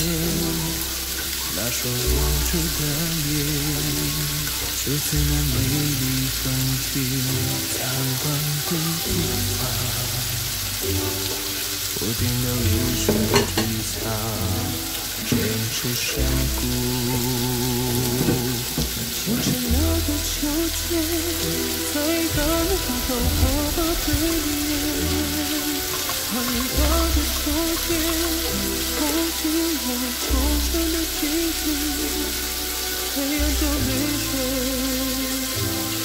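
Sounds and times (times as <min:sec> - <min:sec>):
food sizzling in oil: 0:00.0 - 0:36.0
slow background music: 0:00.0 - 0:36.0.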